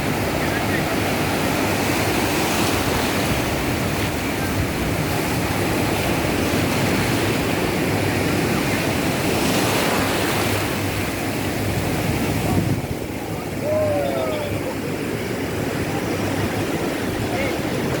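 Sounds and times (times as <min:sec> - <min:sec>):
ocean surf on beach: 0:00.0 - 0:18.0.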